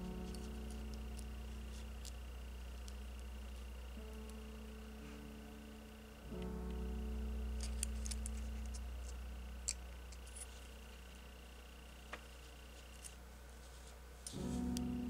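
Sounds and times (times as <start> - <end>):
soft ambient music: 0.0 - 15.0.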